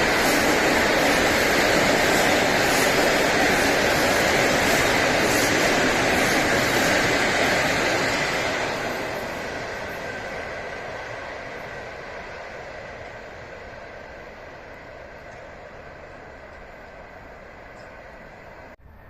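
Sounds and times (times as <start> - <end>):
train wheels rolling on rails: 0.0 - 18.8.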